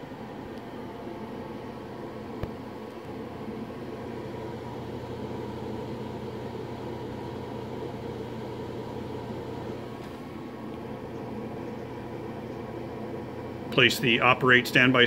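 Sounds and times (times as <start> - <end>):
cooling blower whirring: 0.0 - 15.0.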